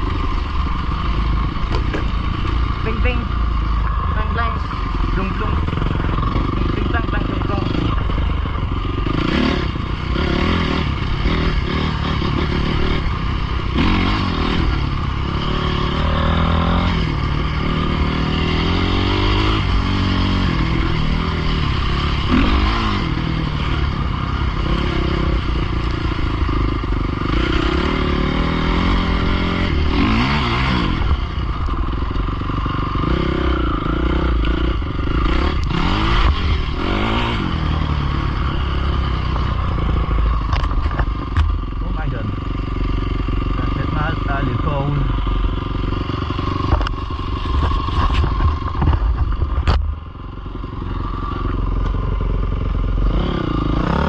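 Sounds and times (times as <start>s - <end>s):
dirt bike engines revving: 0.0s - 54.0s
dirt bike passing by: 0.0s - 54.0s.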